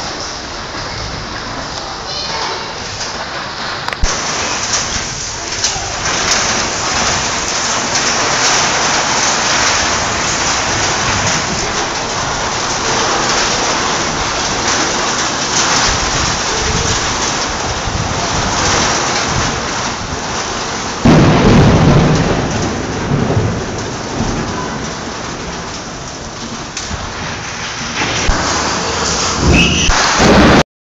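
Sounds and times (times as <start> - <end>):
thunder clap rumbling: 0.0 - 30.6
heavy rain: 0.0 - 30.7.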